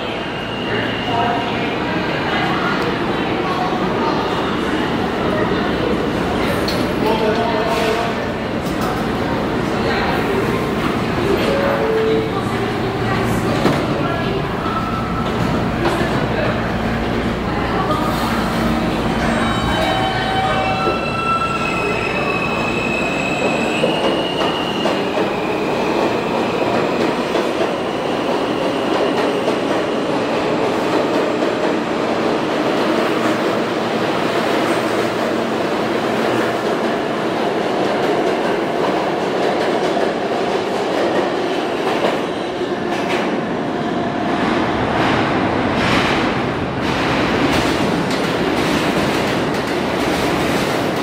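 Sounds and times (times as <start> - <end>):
subway train motors whining: 0.0 - 51.0.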